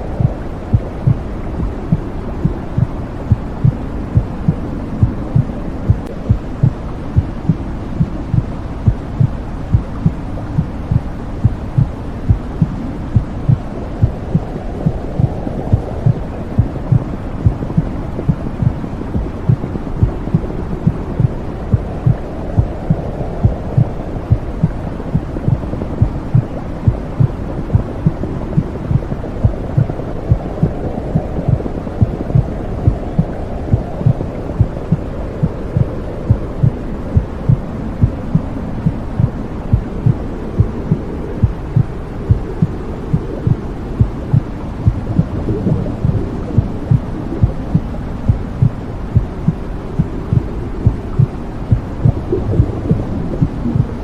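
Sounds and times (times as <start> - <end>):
heartbeat pulse: 0.0 - 54.0
low whooshing rumble: 0.0 - 54.0.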